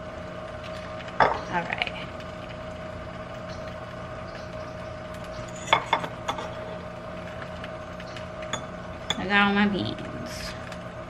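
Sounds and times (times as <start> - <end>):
egg sizzling in a pan: 0.0 - 9.6
constant hum: 0.0 - 11.0.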